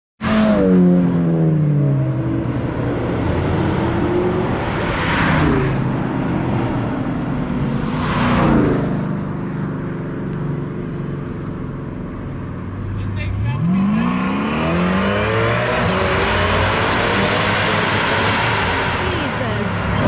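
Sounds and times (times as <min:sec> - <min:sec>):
cars driving past: 0:00.2 - 0:20.0.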